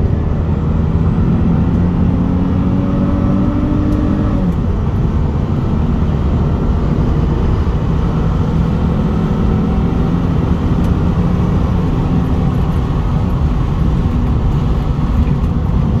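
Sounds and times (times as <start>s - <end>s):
car engine running steadily: 0.0s - 16.0s
tyre and road noise: 0.0s - 16.0s.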